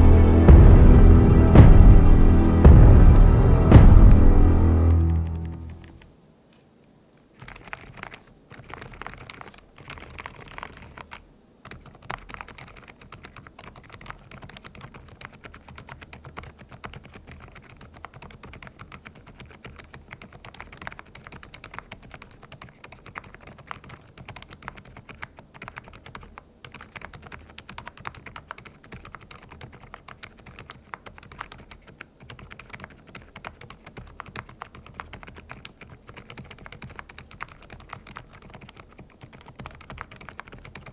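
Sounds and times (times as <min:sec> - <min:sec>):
soft mechanical keyboard typing: 0:07.3 - 0:40.9.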